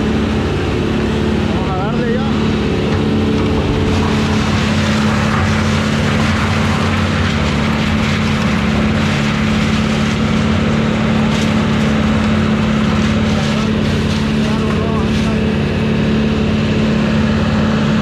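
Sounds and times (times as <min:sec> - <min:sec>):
wood chipper engine running: 0:00.0 - 0:18.0.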